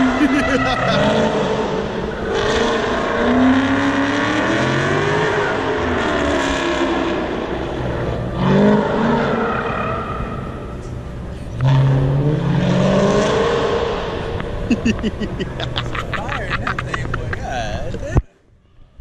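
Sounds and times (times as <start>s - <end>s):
car engine accelerating: 0.0s - 18.2s.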